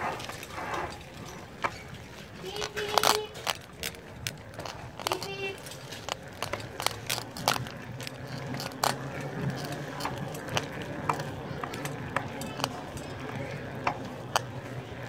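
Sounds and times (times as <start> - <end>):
bicycle riding over concrete: 0.0 - 15.0
bicycle parts clicking and rattling: 0.2 - 15.0.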